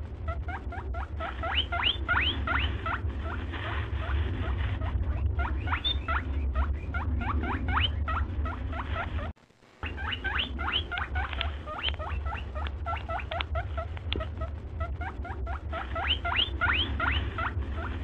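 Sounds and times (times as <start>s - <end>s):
steady low hum: 0.0s - 18.0s
small birds chirping: 0.3s - 18.0s.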